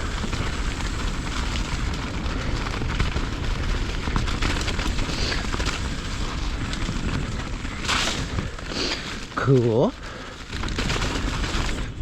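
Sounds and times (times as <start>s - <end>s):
bike clicks and rattles: 0.0s - 12.0s.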